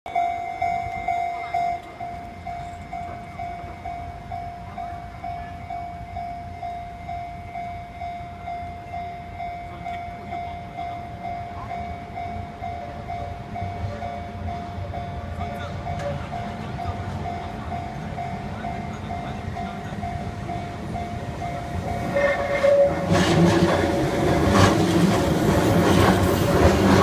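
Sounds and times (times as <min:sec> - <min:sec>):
level-crossing warning bell: 0:00.1 - 0:27.0
train low rumble: 0:00.1 - 0:27.0.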